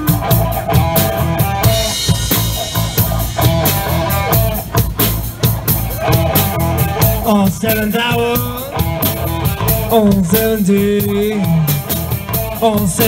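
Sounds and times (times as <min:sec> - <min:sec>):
drum kit beat: 0:00.0 - 0:13.0
electric guitar bent notes: 0:00.0 - 0:13.0.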